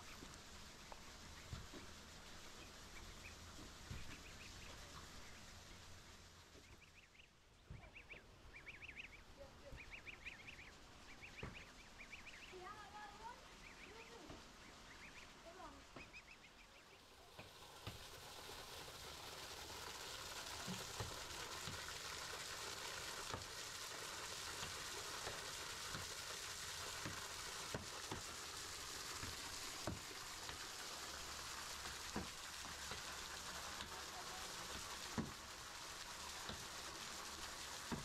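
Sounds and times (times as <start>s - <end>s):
waterfall splashing on rock: 0.0s - 7.0s, 9.7s - 38.0s.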